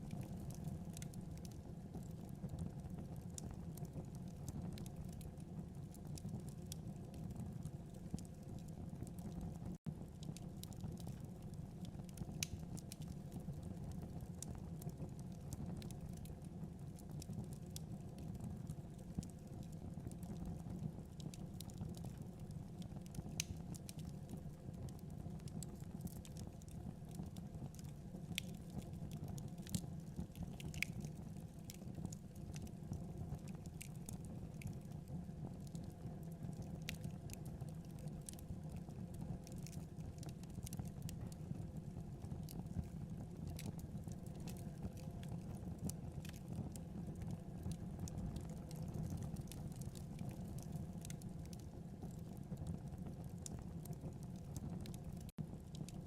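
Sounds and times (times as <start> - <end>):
fire crackles and pops: 0.0 - 56.0
low rush of flames: 0.0 - 56.0.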